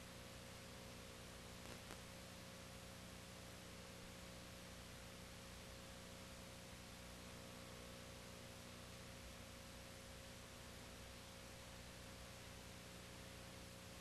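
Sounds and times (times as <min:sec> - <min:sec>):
faint hiss: 0:00.0 - 0:14.0
low electrical hum: 0:00.0 - 0:14.0.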